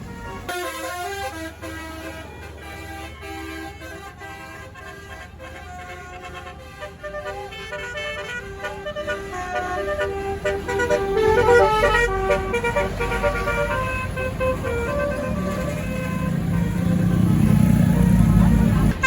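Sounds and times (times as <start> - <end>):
bus engine rumbling: 0.0 - 19.0
bus horn playing a tune: 0.0 - 19.0.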